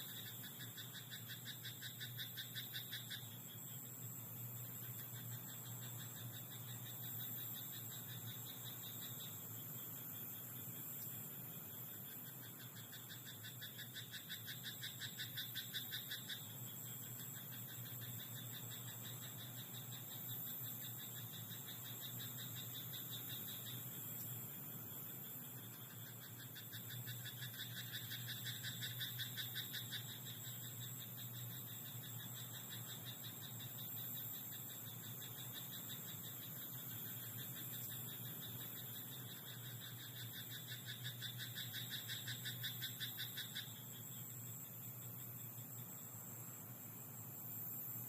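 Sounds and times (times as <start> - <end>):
frogs croaking chorus: 0.0 - 48.0.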